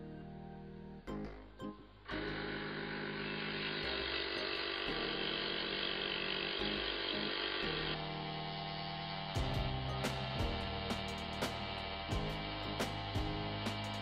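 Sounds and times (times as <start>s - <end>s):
background music: 0.0s - 14.0s
scroll saw cutting plywood: 2.1s - 14.0s.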